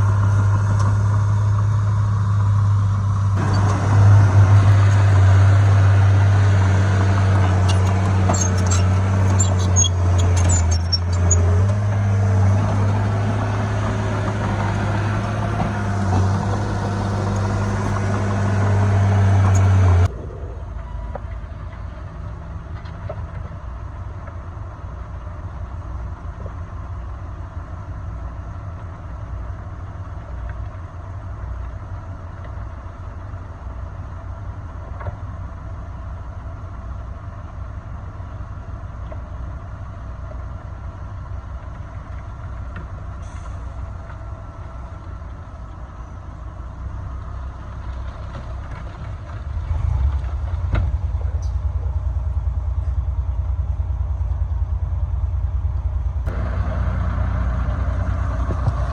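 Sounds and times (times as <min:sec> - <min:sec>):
heavy diesel engine working: 0:00.0 - 0:58.9.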